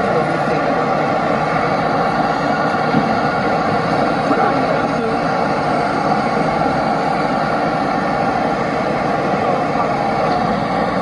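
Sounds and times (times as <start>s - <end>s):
vehicles passing on city street: 0.0s - 11.0s.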